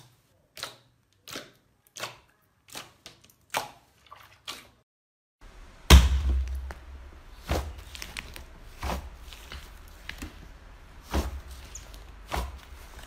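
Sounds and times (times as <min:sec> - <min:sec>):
hands squishing slime: 0:00.0 - 0:04.8, 0:06.4 - 0:13.0.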